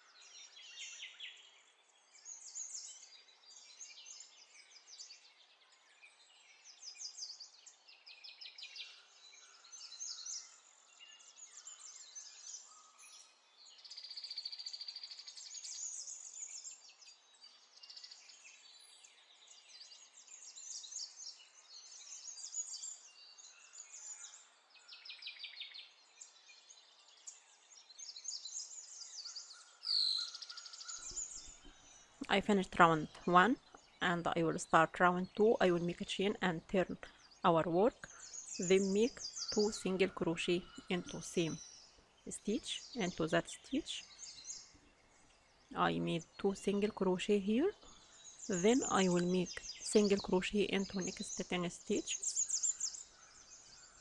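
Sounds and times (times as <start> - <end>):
small birds chirping and trilling: 0.0 - 54.0.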